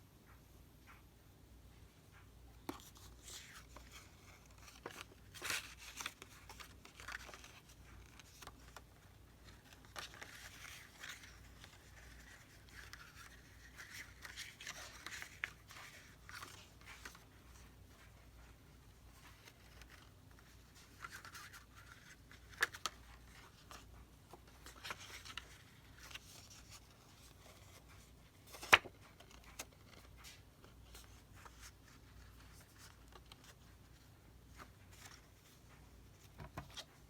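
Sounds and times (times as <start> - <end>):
paper rustling and scraping: 2.7 - 37.0.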